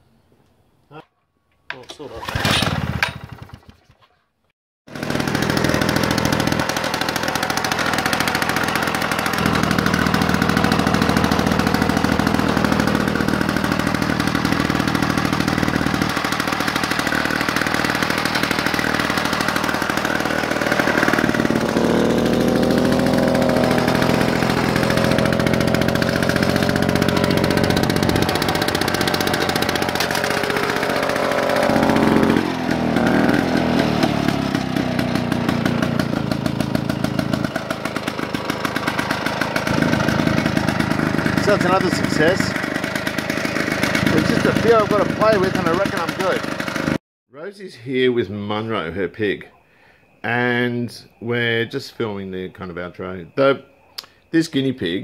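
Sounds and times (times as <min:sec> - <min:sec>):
lawn mower engine running: 0:01.9 - 0:03.8, 0:04.9 - 0:47.0.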